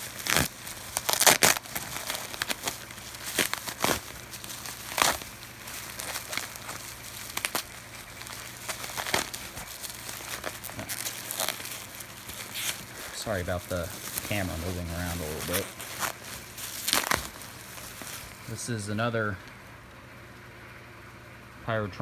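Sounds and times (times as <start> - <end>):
packaging crinkling and tearing: 0.0 - 18.7.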